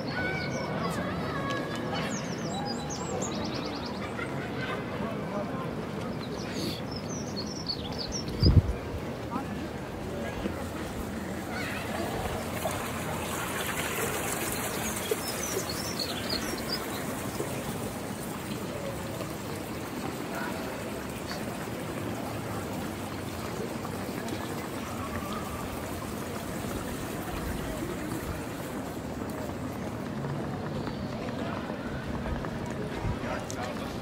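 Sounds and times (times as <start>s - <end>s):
brook water rushing: 5.7s - 34.0s.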